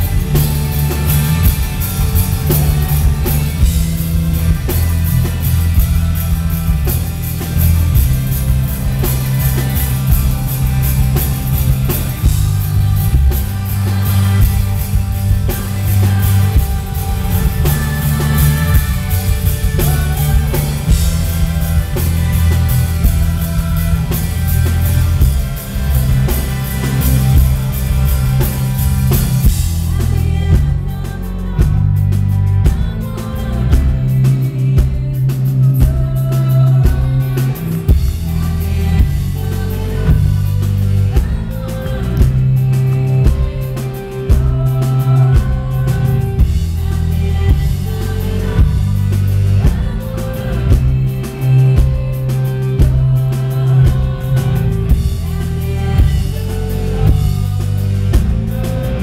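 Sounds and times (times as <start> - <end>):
live rock band playing: 0.0 - 59.0
woman singing: 0.0 - 59.0.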